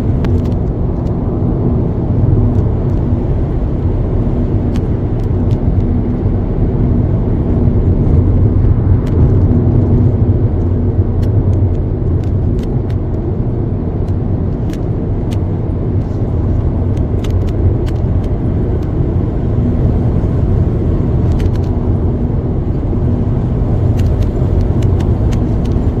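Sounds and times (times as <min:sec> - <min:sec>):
car driving on road: 0:00.0 - 0:26.0.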